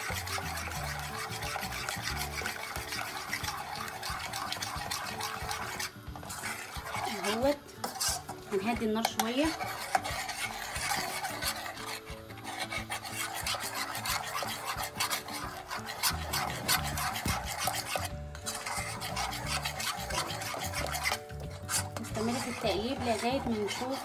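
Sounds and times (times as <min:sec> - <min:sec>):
utensil scraping pot bottom: 0:00.0 - 0:24.0.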